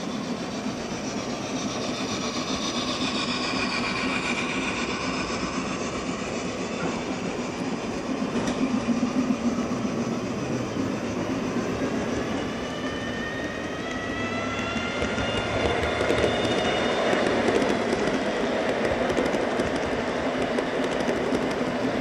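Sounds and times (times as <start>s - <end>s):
model train wheels rumbling on rail: 0.0s - 22.0s.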